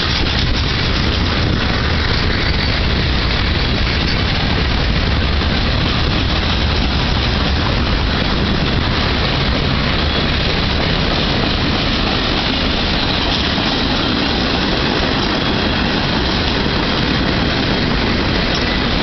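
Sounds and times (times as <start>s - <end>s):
freight train wheels rumbling on rails: 0.0s - 19.0s.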